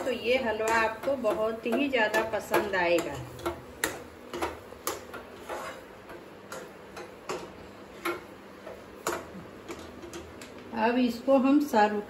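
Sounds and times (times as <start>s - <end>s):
steel spoon scraping a pan: 0.0s - 10.2s.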